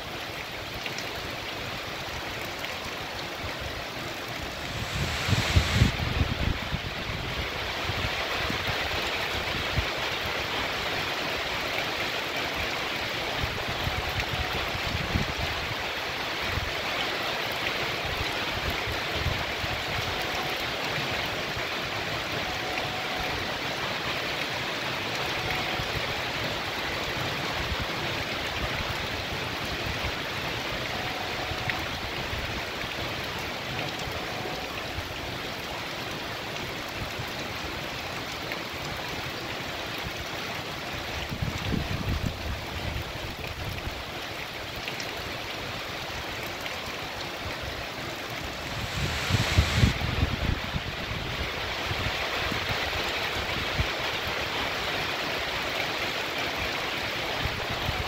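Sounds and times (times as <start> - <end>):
heavy rain on pavement and leaves: 0.0 - 58.0.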